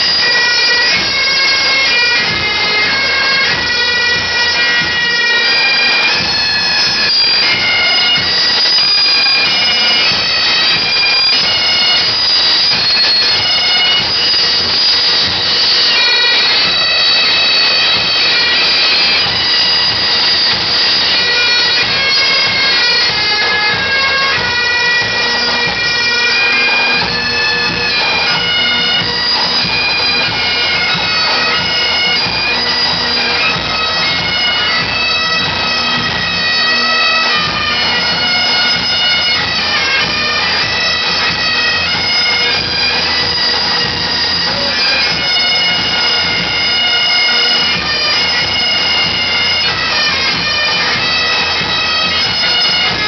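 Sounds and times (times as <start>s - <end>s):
bagpipes playing a tune: 0.0s - 53.0s.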